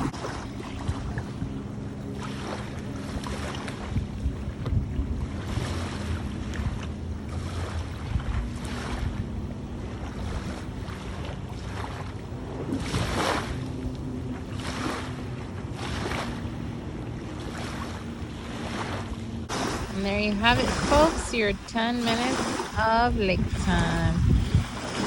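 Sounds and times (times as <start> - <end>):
low drone: 0.0 - 25.0
paddle strokes swishing through water: 0.0 - 25.0
wind buffeting microphone: 0.0 - 25.0.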